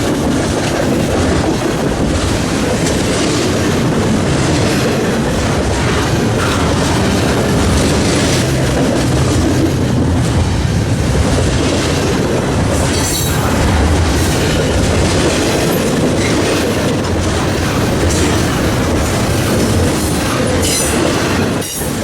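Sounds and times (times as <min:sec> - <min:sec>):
train wheels clacking on rails: 0:00.0 - 0:22.0.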